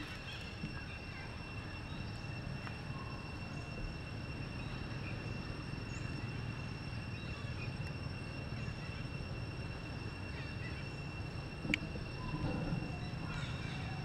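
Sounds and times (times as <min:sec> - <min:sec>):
insects buzzing: 0:00.0 - 0:14.0
low outdoor rumble: 0:00.0 - 0:14.0.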